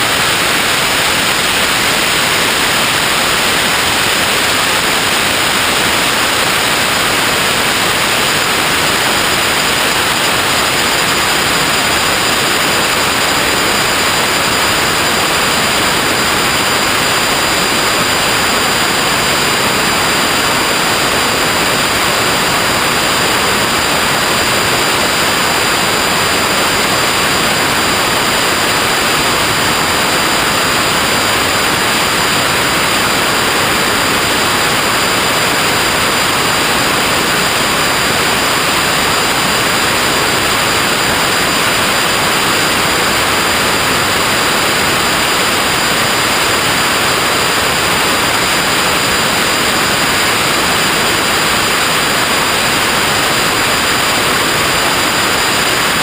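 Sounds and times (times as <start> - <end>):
static hiss: 0.0 - 56.0.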